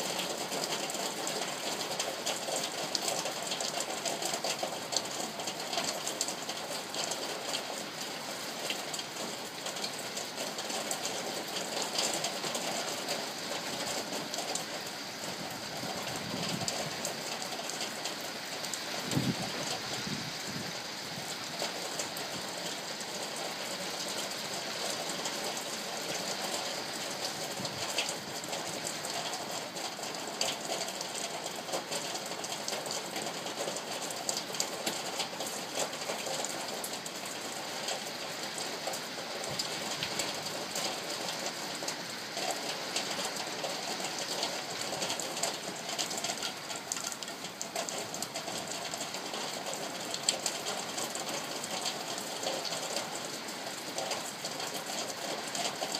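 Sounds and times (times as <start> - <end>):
heavy rain on a tin roof: 0.0 - 55.9.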